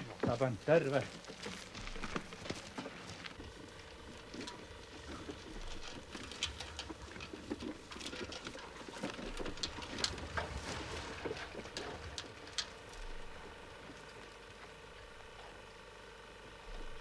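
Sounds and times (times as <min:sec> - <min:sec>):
footsteps on gravel: 0:00.0 - 0:15.6
small clicks and rattles: 0:00.0 - 0:15.8
cart wheels crunching on gravel: 0:00.0 - 0:16.0.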